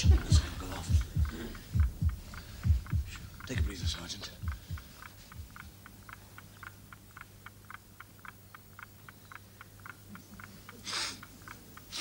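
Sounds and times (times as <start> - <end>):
clockwork ticking: 0.0 - 12.0.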